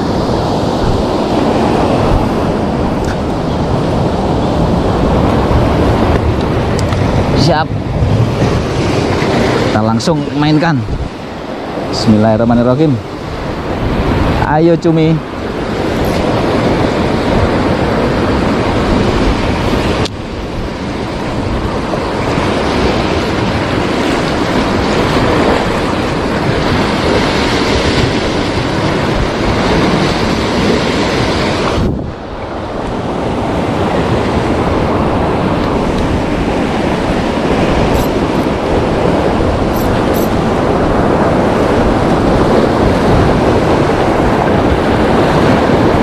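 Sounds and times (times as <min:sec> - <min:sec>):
big waves breaking on shore: 0:00.0 - 0:46.0
wind buffeting microphone: 0:00.0 - 0:46.0.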